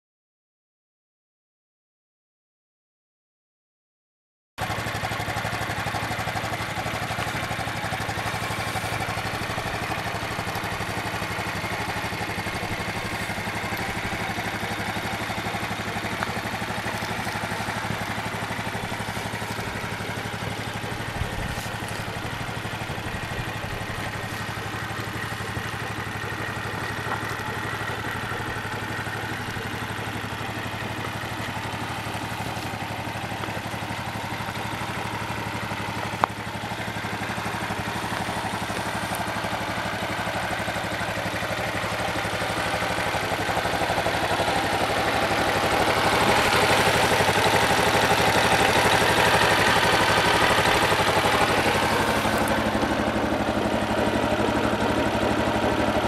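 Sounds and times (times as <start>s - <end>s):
quad engine idling: 4.6s - 56.0s.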